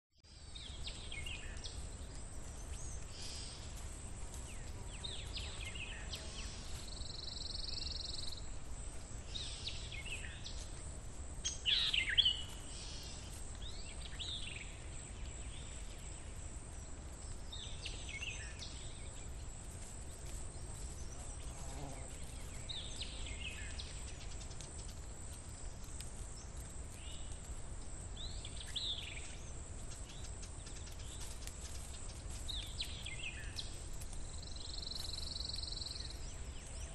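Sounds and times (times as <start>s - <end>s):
birds chirping: 0.2s - 10.8s, 11.4s - 27.6s, 28.2s - 36.9s.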